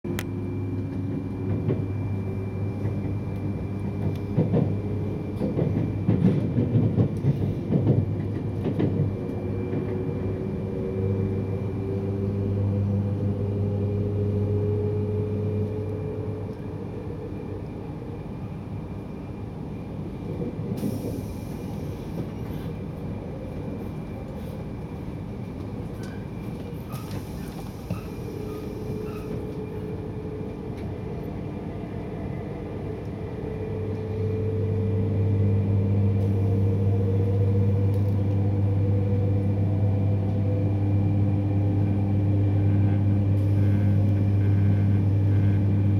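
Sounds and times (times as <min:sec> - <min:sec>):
train cabin hum rising in pitch: 0:00.1 - 0:45.9.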